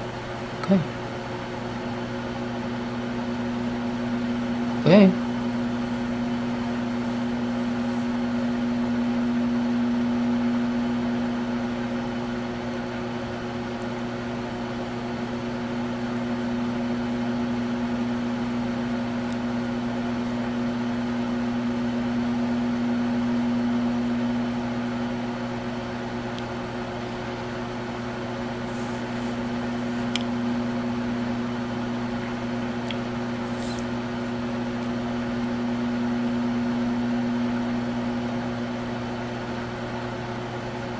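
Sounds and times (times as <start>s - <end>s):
microwave oven humming: 0.0s - 40.9s.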